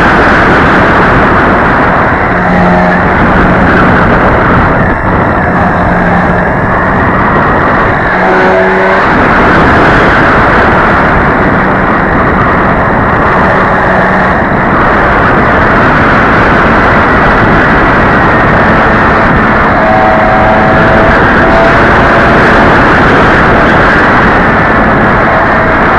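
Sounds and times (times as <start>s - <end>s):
model plane motor droning: 0.0s - 25.9s
wind rushing on microphone: 0.0s - 25.9s.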